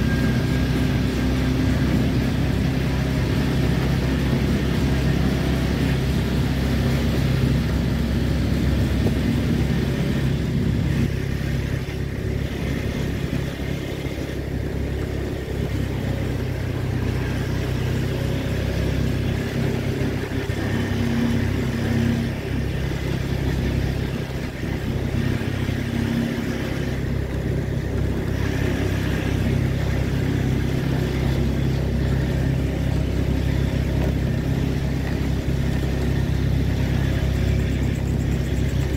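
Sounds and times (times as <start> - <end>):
road noise: 0.0 - 38.9
vehicle engine humming: 0.0 - 38.9.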